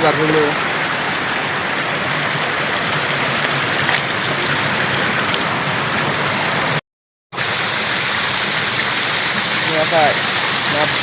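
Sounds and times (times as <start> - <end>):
waterfall rushing and splashing: 0.0 - 6.8, 7.4 - 11.0.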